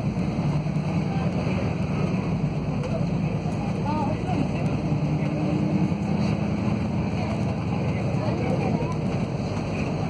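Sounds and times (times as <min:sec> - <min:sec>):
bus engine hum: 0:00.0 - 0:10.0
road noise: 0:00.0 - 0:10.0.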